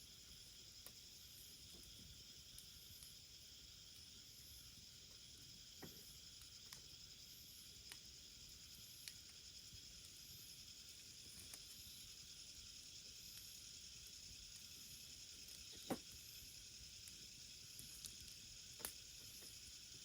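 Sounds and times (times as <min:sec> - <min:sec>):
fire crackles: 0:00.0 - 0:20.0
wood fire hissing: 0:00.0 - 0:20.0.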